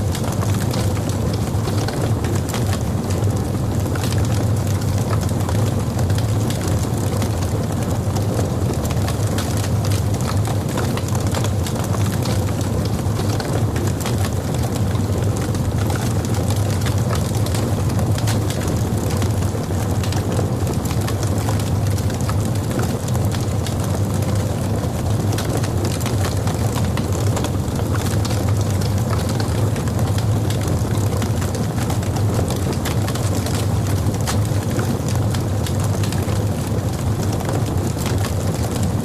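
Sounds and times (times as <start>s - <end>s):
fire crackling and popping: 0.0s - 39.0s
fire rumbling: 0.0s - 39.0s.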